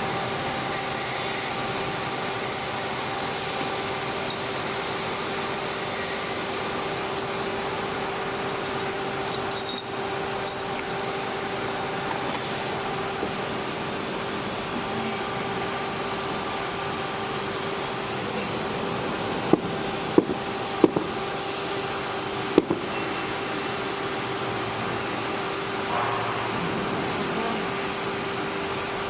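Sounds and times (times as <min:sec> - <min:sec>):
machine hum with held tone: 0:00.0 - 0:29.0.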